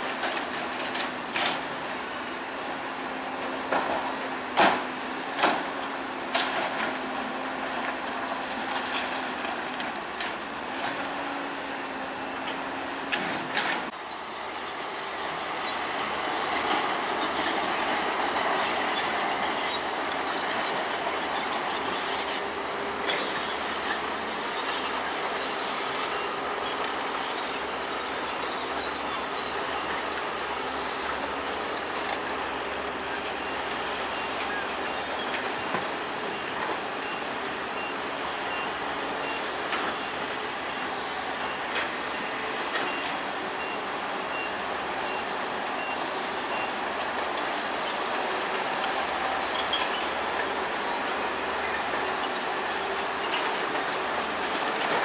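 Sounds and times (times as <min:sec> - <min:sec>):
bulldozer engine under load: 0:00.0 - 0:55.0
steel tracks clanking and squealing: 0:03.6 - 0:55.0.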